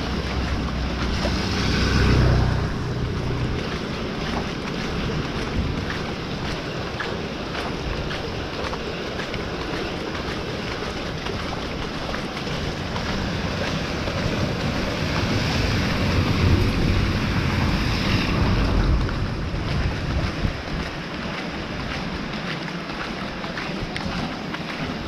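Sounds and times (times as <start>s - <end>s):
steady rain falling: 0.0s - 25.0s
wind rumble on microphone: 0.0s - 25.0s.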